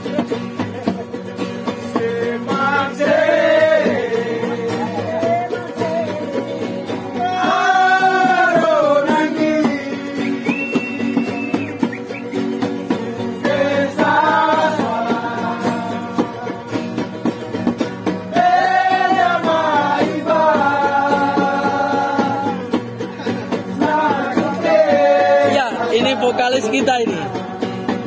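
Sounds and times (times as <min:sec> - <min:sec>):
acoustic guitars strumming: 0:00.0 - 0:28.0
men singing: 0:01.6 - 0:28.0.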